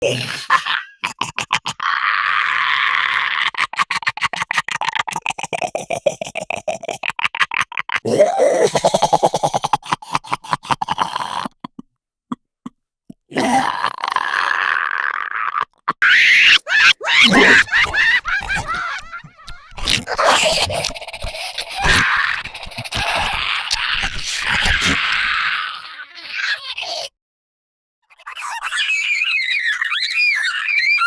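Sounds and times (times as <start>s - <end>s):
creature gurgling chatter: 0.0s - 11.8s, 13.1s - 27.1s, 28.1s - 31.0s.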